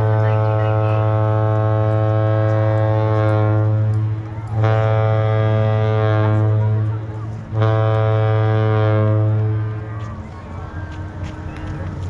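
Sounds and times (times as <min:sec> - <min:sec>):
ship horn long blast: 0:00.0 - 0:09.9.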